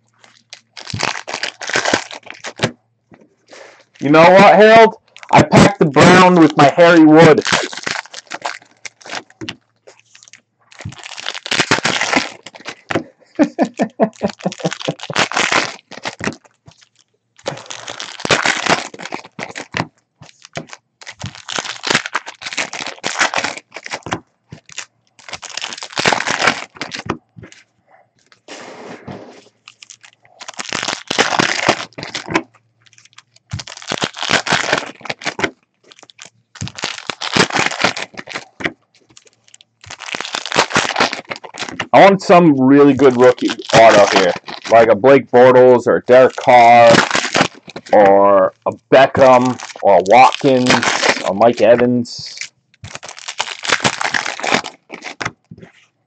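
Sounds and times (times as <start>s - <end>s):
wrappers torn and crinkled: 0.1s - 2.8s, 3.5s - 28.6s, 29.5s - 55.6s.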